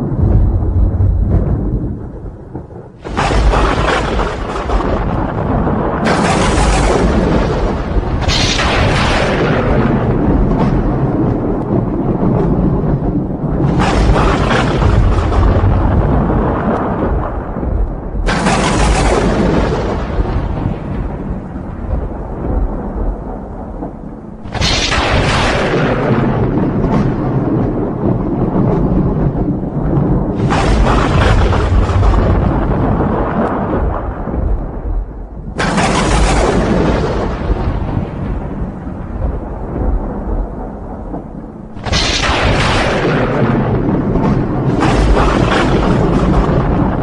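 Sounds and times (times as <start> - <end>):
thunder crack: 0.0 - 47.0
thunder rumble: 0.0 - 47.0.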